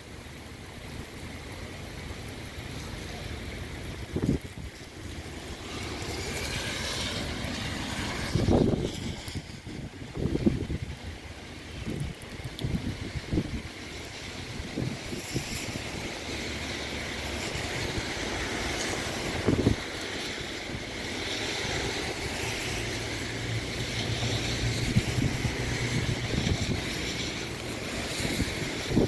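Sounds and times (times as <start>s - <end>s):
heavy rain: 0.0s - 29.0s
wind buffeting microphone: 3.4s - 29.0s.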